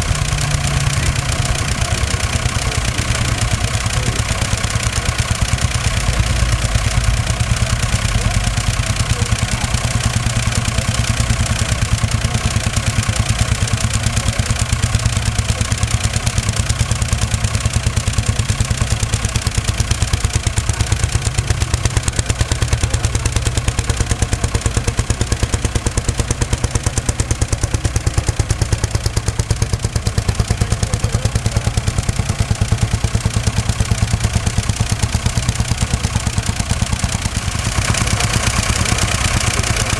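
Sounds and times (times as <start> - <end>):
diesel tractor engines running: 0.0 - 39.9.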